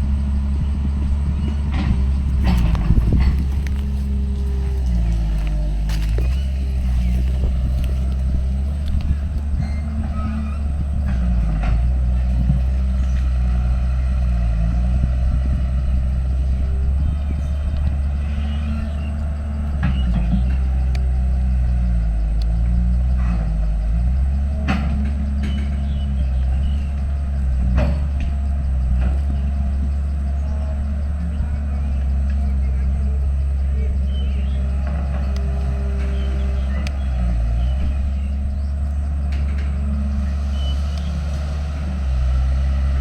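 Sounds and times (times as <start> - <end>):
diesel engine under changing load: 0.0 - 43.0.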